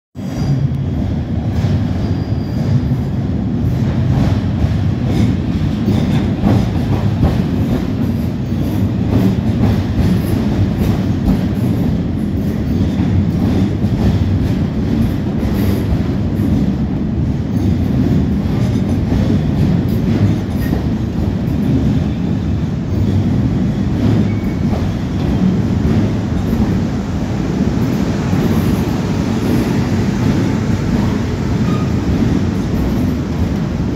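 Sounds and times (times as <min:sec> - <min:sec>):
train wheels rumbling: 0:00.2 - 0:33.9.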